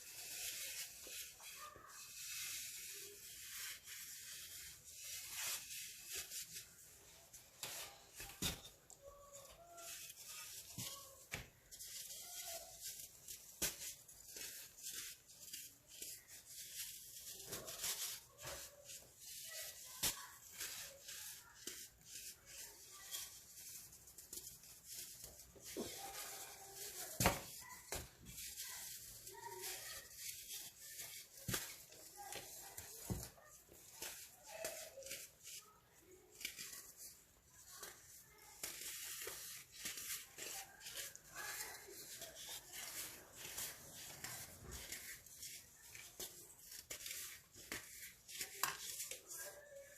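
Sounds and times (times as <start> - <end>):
baking soda crunching: 0.0 - 49.9.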